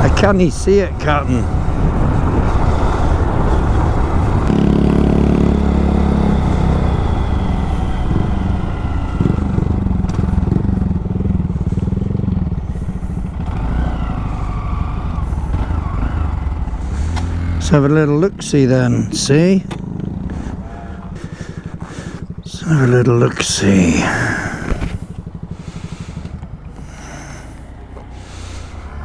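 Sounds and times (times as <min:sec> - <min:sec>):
low rush of riding noise: 0:00.0 - 0:29.0
motorcycle engine revving: 0:00.0 - 0:29.0.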